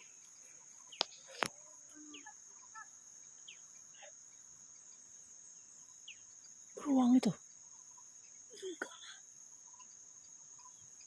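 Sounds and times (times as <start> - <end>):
crickets droning: 0.0 - 11.0
faint chirps: 0.0 - 11.0.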